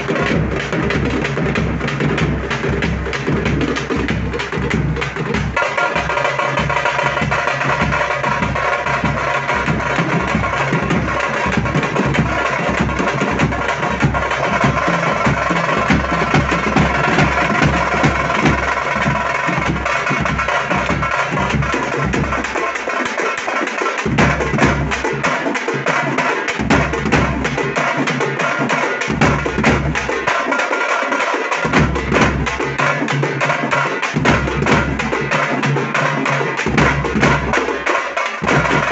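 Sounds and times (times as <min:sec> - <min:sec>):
frame drums played fast: 0:00.0 - 0:38.9.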